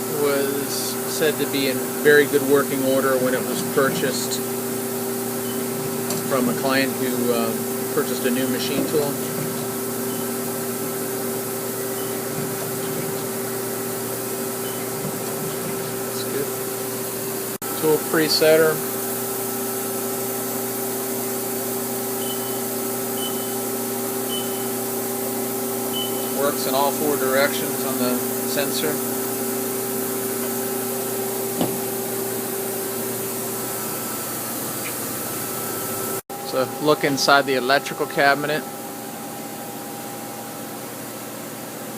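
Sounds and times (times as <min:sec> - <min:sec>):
lathe humming: 0:00.0 - 0:37.4.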